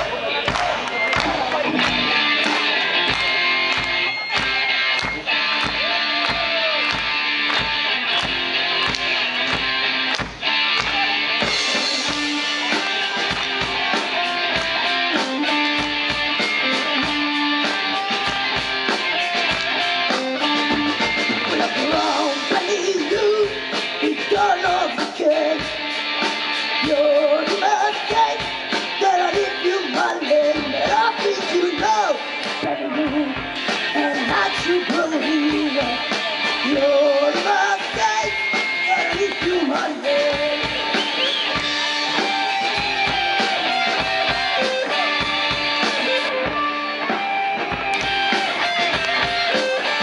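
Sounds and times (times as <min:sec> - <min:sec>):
electric guitar chords: 0:00.0 - 0:50.0
steady drum beat: 0:00.0 - 0:50.0.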